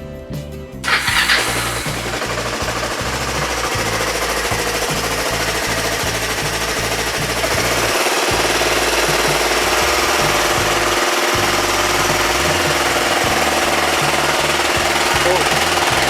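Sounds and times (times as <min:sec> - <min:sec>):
lawn tractor engine chugging: 0:00.8 - 0:16.0.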